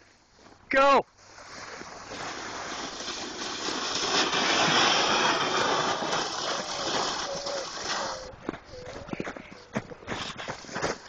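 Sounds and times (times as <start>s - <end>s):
sled sliding on snow: 1.2s - 11.0s.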